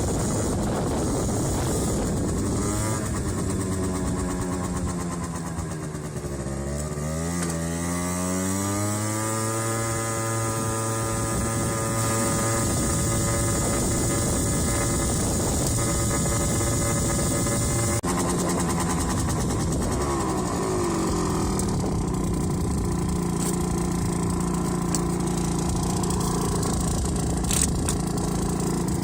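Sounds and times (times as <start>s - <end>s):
wind on microphone: 0.0s - 5.2s, 9.8s - 28.2s
scooter engine: 0.0s - 29.0s.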